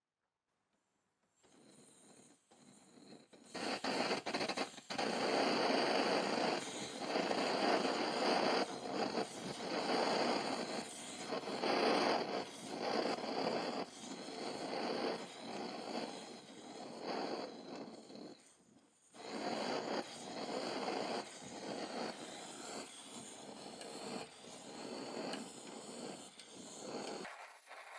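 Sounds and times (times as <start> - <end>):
blowtorch roaring hiss: 1.4 - 27.9.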